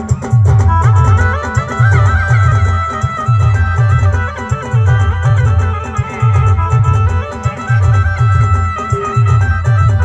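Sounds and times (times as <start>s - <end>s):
band music through sound system: 0.0s - 10.0s
heavy pulsing bass beat: 0.0s - 10.0s.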